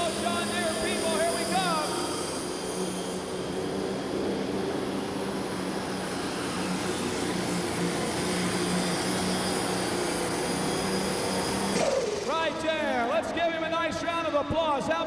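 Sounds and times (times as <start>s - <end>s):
diesel tractor engine at full power: 0.0s - 15.0s
high turbo whine: 0.0s - 15.0s.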